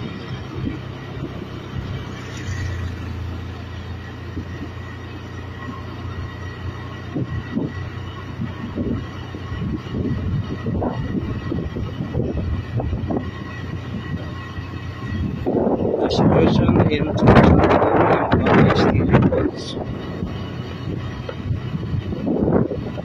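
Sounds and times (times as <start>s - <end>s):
low rumbles: 0.0s - 23.0s
vehicle engine and road noise: 0.0s - 23.0s.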